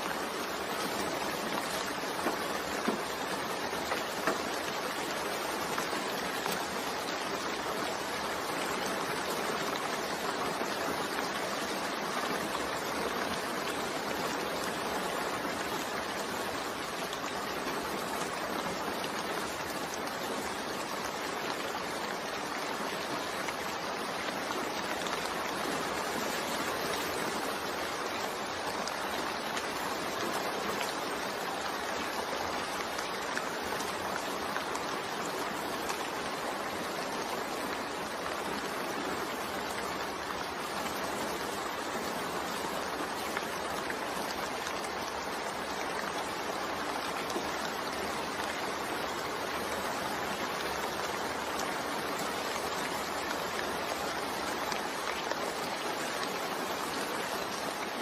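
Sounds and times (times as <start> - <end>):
rain hiss with white noise: 0.0 - 58.0.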